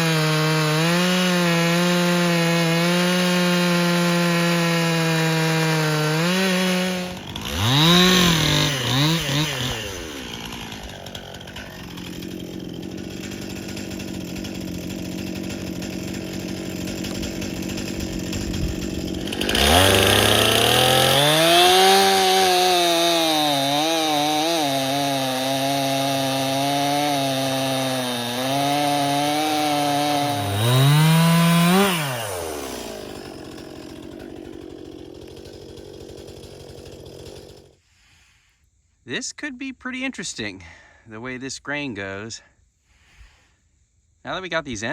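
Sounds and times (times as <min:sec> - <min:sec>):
chainsaw cutting log: 0:00.0 - 0:37.8.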